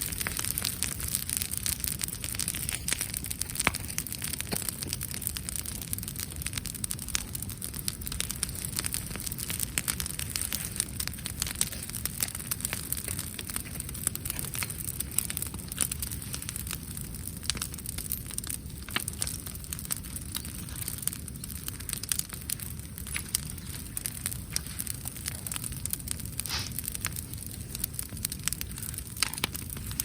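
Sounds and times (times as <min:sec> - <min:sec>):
campfire crackling and popping: 0:00.0 - 0:30.0
low rush of flame: 0:00.0 - 0:30.0.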